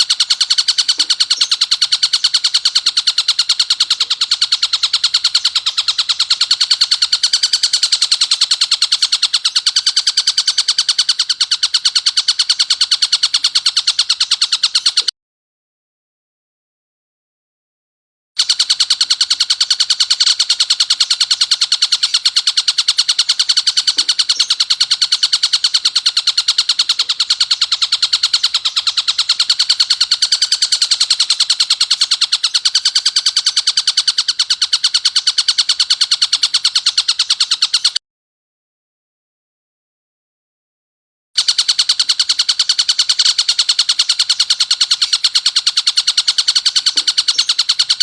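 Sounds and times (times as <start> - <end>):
kingfisher rattling call: 0.0 - 15.1, 18.4 - 38.0, 41.4 - 48.0.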